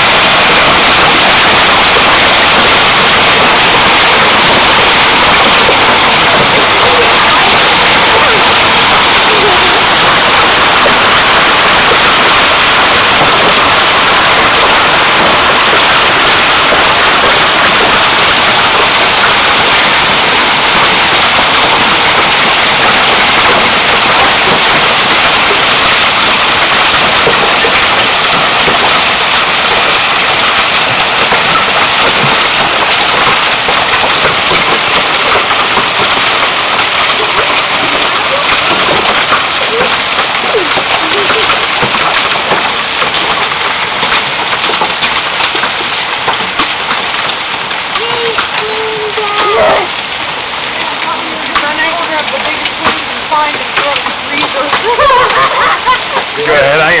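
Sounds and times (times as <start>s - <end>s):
hail and rain pelting: 0.0s - 57.0s.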